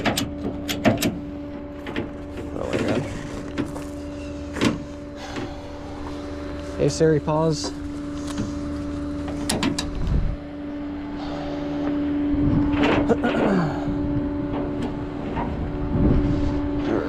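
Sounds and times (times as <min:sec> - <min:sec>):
engine drone: 0:00.0 - 0:17.0
short falling whine: 0:00.3 - 0:17.0.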